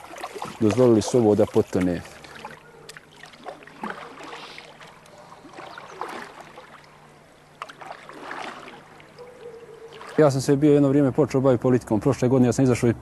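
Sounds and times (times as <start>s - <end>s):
water lapping against hull: 0.0s - 10.9s.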